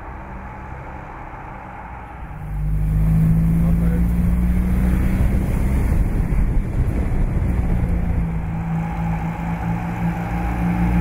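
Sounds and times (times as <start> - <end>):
car engine running: 1.8 - 11.0.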